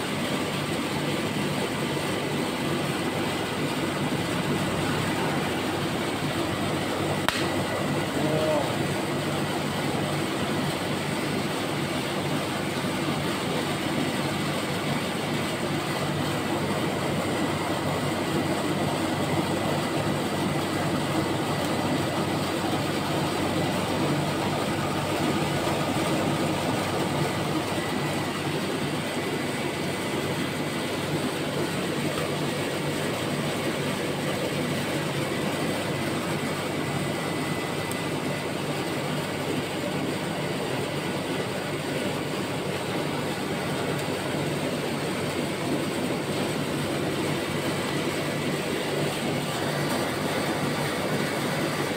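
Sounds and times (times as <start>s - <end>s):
refrigeration unit running: 0.0s - 51.9s.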